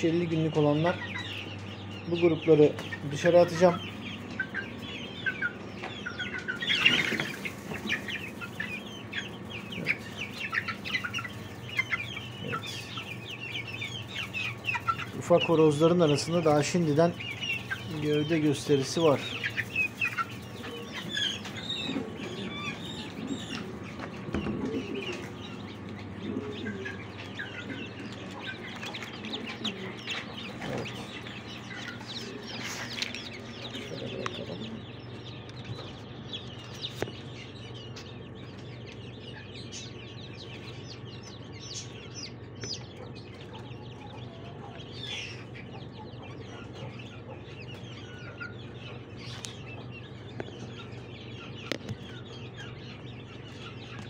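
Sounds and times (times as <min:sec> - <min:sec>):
chicks clucking and cheeping: 0:00.0 - 0:54.0
steady low hum: 0:00.0 - 0:54.0.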